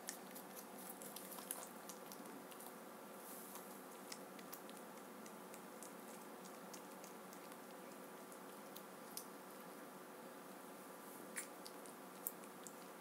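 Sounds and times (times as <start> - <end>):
faint steady hum: 0.0 - 13.0
rabbit nibbling: 0.0 - 13.0.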